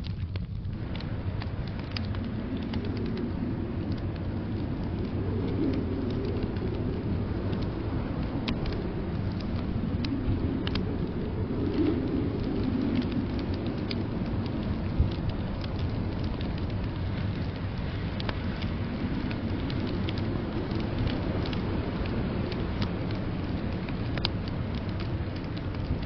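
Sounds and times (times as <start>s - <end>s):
blizzard wind rushing: 0.0s - 26.0s
wood fire crackling: 0.0s - 26.0s.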